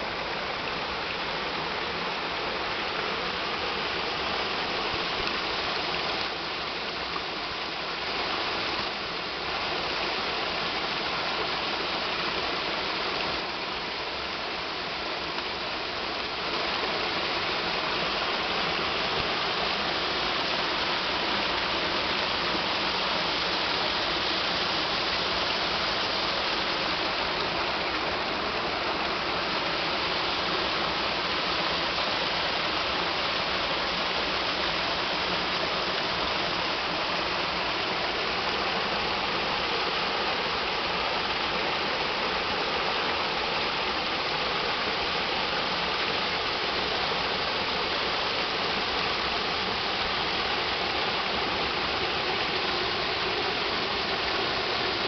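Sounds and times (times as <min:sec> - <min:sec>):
waterfall splashing into pool: 0:00.0 - 0:55.0.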